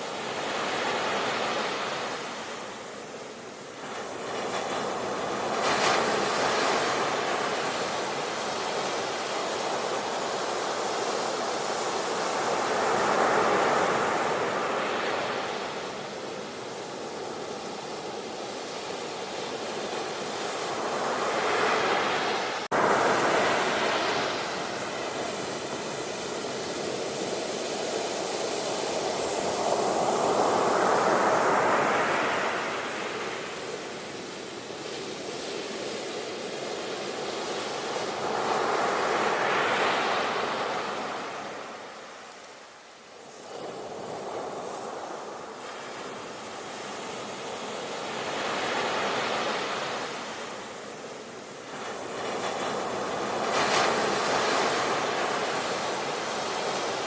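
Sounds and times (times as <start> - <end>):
sea waves washing onto shore: 0.0 - 57.0.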